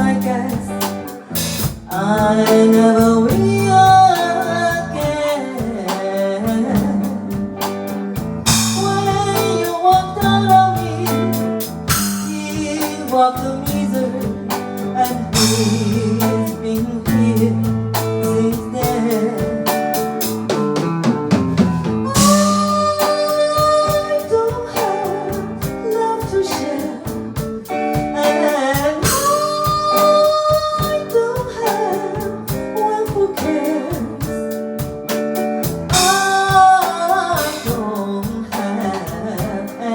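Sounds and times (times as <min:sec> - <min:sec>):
slow ballad with drums and guitar: 0:00.0 - 0:39.9.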